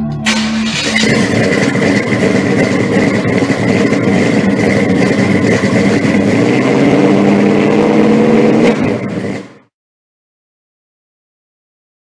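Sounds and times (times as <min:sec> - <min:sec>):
car engine rumbling: 0:00.0 - 0:09.7.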